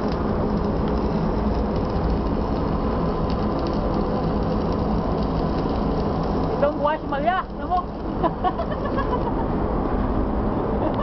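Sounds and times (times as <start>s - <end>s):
arc welder crackling: 0.0s - 9.4s
ship engine rumble: 0.0s - 11.0s.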